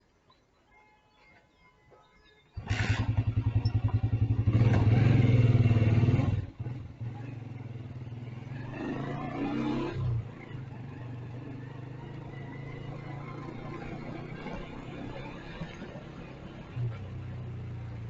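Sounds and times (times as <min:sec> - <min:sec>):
motorcycle engine running: 0:02.6 - 0:18.0.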